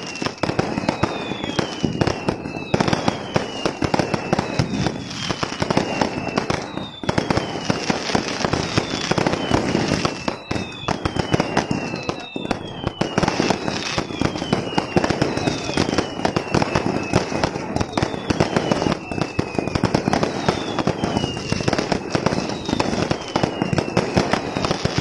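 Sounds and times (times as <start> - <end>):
fireworks crackling bangs: 0.0 - 25.0
shrill falling whistle: 0.0 - 25.0.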